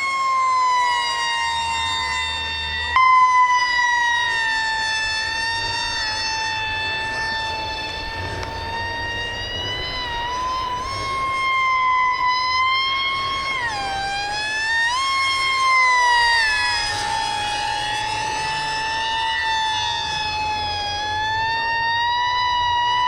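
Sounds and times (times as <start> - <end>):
model plane motor whine: 0.0 - 23.0.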